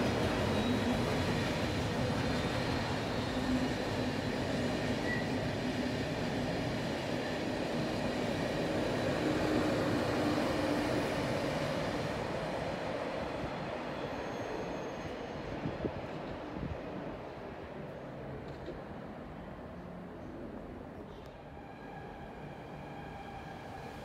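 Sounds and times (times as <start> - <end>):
low train hum: 0.0 - 24.0.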